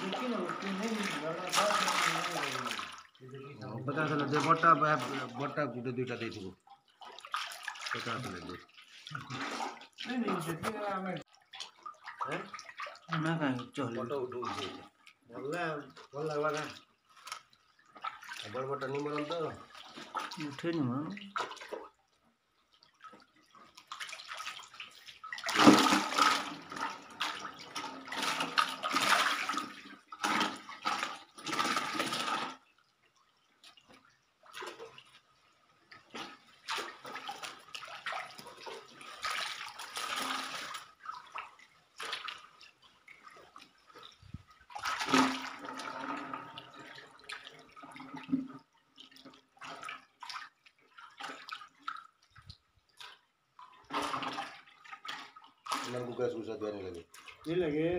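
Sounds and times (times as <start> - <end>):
fish splashing in shallow water: 0.0 - 3.3, 6.5 - 13.6, 14.4 - 56.2.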